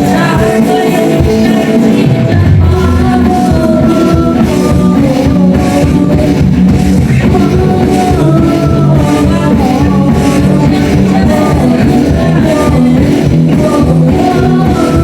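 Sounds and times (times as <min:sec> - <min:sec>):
boy singing: 0:00.0 - 0:15.0
rock band playing: 0:00.0 - 0:15.0.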